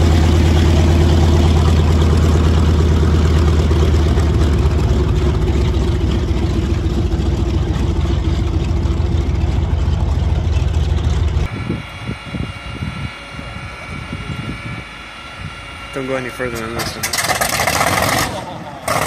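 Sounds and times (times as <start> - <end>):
aircraft radial engine droning: 0.0 - 19.0.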